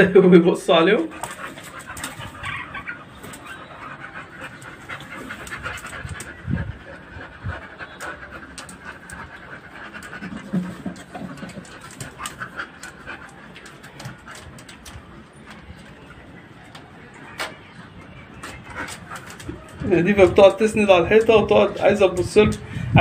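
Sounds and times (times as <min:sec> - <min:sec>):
dog panting: 0:00.8 - 0:15.9, 0:18.0 - 0:23.0.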